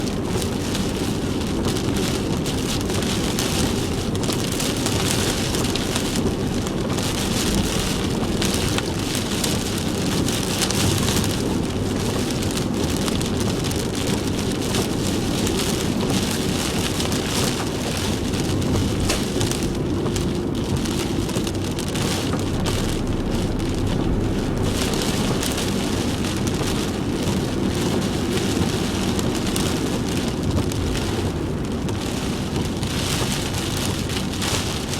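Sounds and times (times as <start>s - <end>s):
heavy rain pouring: 0.0s - 34.9s
low rumble of road traffic: 0.0s - 34.9s.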